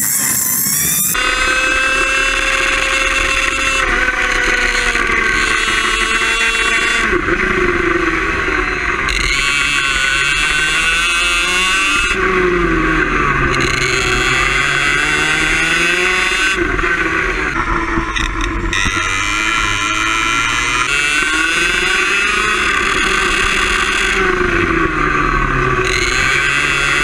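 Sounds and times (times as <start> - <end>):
two-stroke kart engine revving: 0.0 - 27.0.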